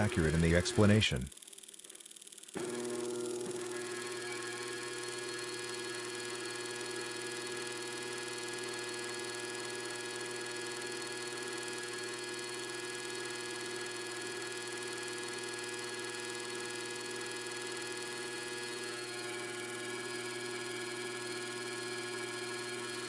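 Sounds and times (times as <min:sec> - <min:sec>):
electric motor humming: 0:00.0 - 0:23.0.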